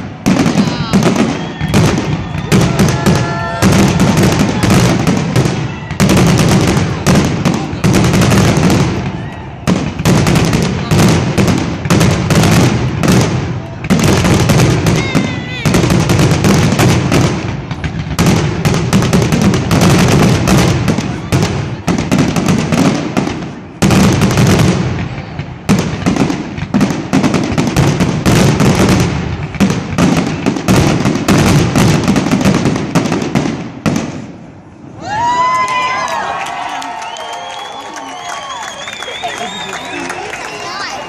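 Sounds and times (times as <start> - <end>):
firework bangs and crackles: 0.0 - 41.0.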